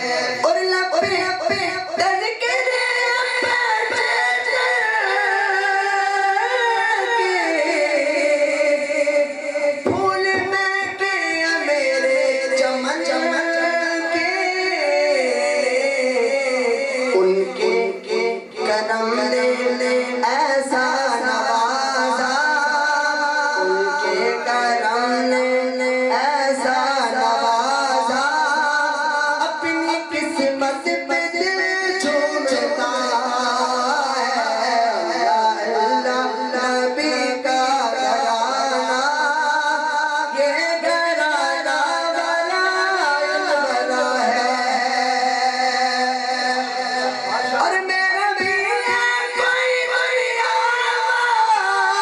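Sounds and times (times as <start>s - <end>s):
man singing into a microphone: 0.0s - 52.0s.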